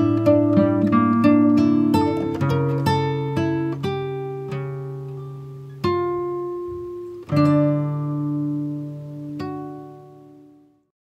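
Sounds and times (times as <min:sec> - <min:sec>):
slow plucked guitar notes: 0:00.0 - 0:10.8.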